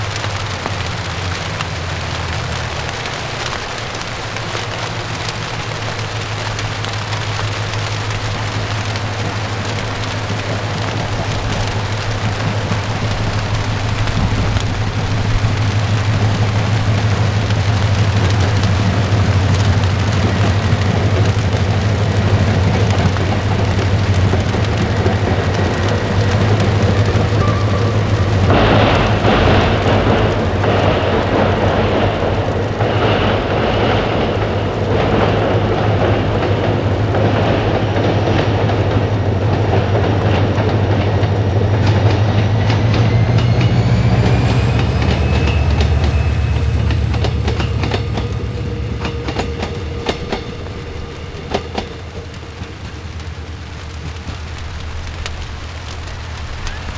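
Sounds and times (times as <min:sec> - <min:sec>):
diesel train engine drone: 0:00.0 - 0:56.9
rail joint clicks: 0:00.0 - 0:56.9
train wheel rumble: 0:00.0 - 0:56.9.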